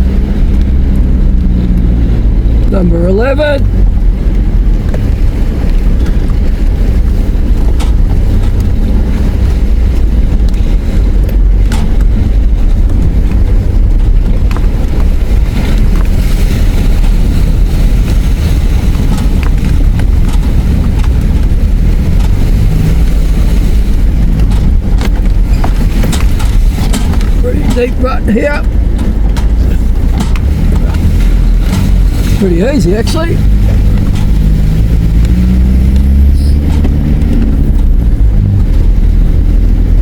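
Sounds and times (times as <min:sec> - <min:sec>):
engine and tyres rumbling: 0:00.0 - 0:40.0
knocks and rattles: 0:03.8 - 0:37.8.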